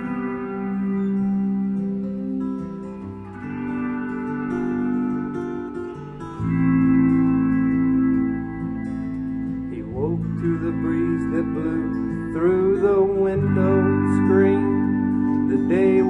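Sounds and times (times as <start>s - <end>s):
bending guitar melody: 0.0s - 16.0s
guitar chords: 0.0s - 16.0s.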